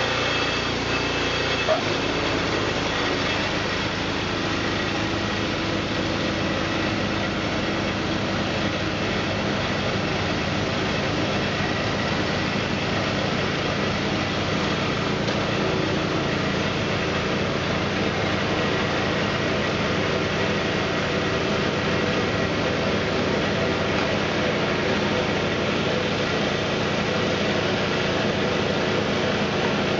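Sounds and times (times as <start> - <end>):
snow blower engine running: 0.0 - 29.9.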